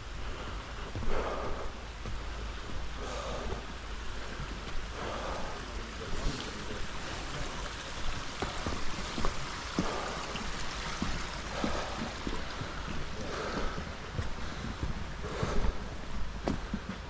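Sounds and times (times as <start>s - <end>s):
footsteps on hiking trail: 0.0s - 17.0s
steady rushing hiss: 0.0s - 17.0s.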